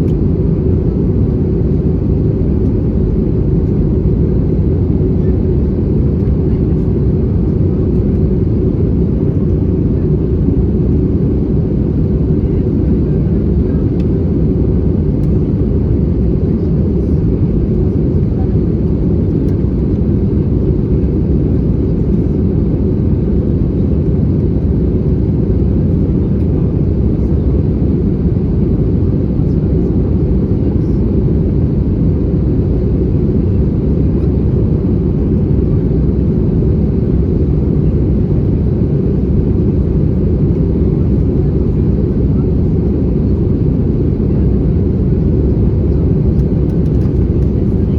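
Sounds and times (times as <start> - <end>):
airplane cabin roar: 0.0 - 47.9.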